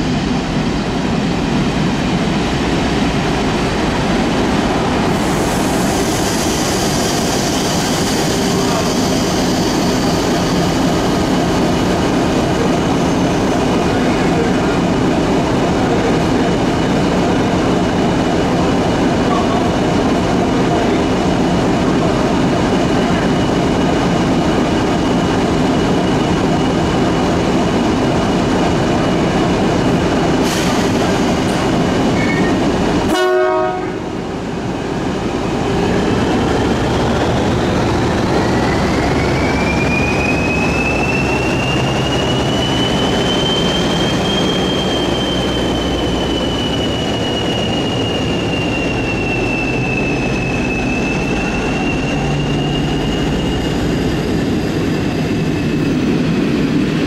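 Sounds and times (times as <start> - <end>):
electric train whine: 0.0 - 57.0.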